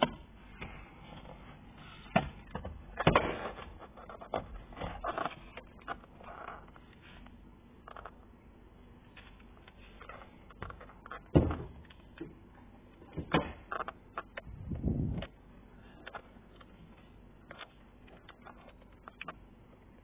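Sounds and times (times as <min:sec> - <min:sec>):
rustling of wiring: 0:00.1 - 0:08.4, 0:09.0 - 0:20.0.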